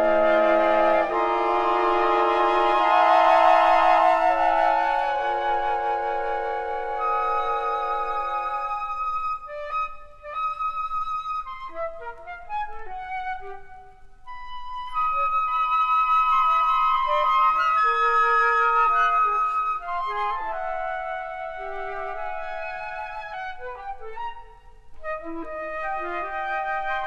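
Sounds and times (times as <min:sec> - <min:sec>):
flute choir playing held notes: 0:00.0 - 0:27.0.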